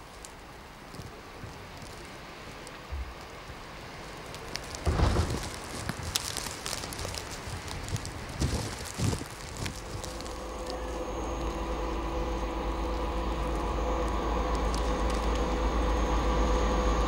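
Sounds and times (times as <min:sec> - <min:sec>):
snowstorm hiss: 0:00.0 - 0:17.0
wind buffeting microphone: 0:00.0 - 0:17.0
approaching train: 0:02.6 - 0:17.0.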